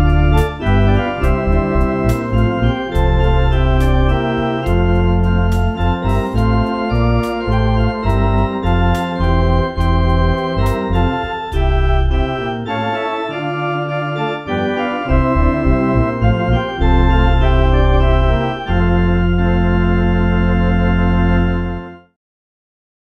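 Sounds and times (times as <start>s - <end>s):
electronic organ playing hymn chords: 0.0s - 22.1s.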